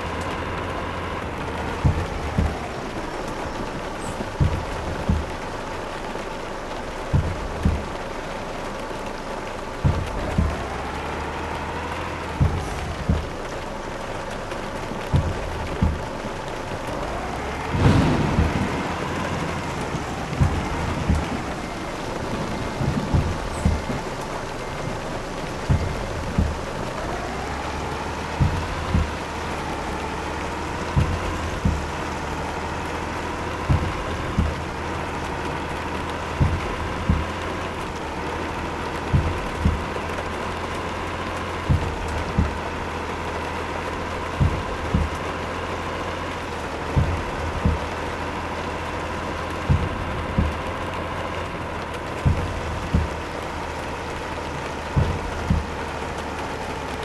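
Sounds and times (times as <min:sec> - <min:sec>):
low thumps: 0:00.0 - 0:57.0
road and wind noise in vehicle: 0:00.0 - 0:57.0.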